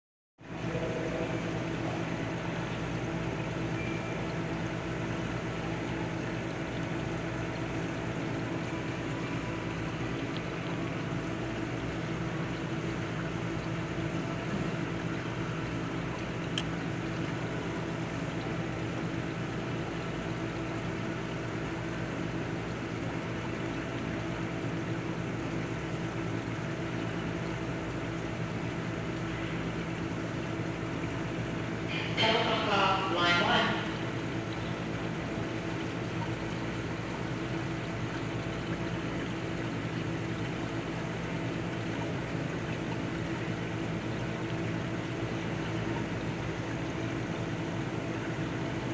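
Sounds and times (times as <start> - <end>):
aquarium pumps humming: 0.4 - 48.9.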